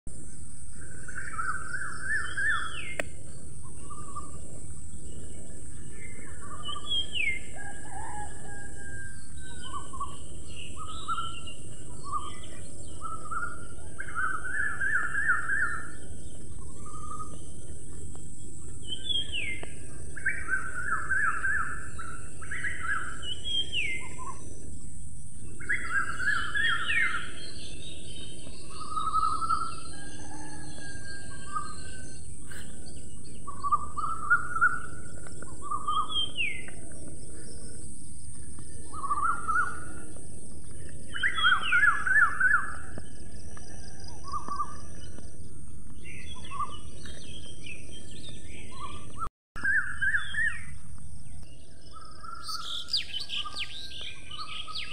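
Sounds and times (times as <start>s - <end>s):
birds chirping trills: 0.1s - 54.9s
whistled bird notes: 0.7s - 24.6s, 25.4s - 54.9s.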